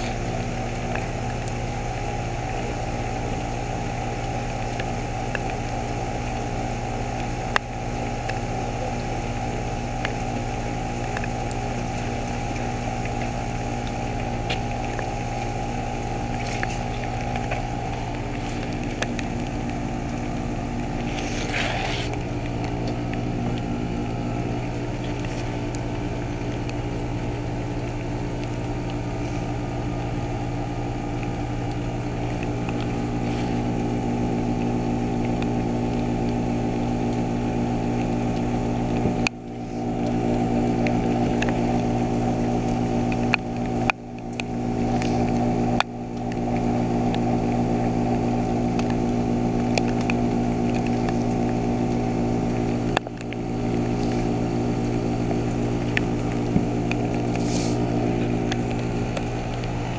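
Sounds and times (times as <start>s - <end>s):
heat pump compressor humming: 0.0s - 59.9s.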